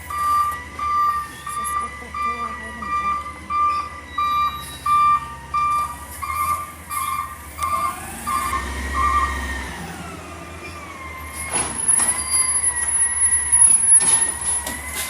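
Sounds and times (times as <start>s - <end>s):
reversing alarm beeping: 0.0s - 15.0s.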